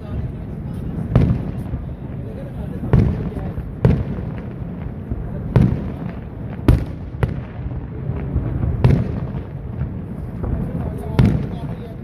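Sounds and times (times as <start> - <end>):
fireworks bangs: 0.0 - 12.0
fireworks cracks and pops: 0.0 - 12.0.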